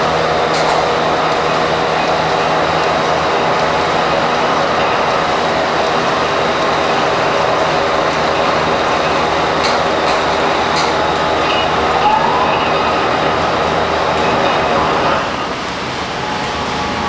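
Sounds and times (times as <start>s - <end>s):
veneer slicer mechanical rumble: 0.0s - 17.0s.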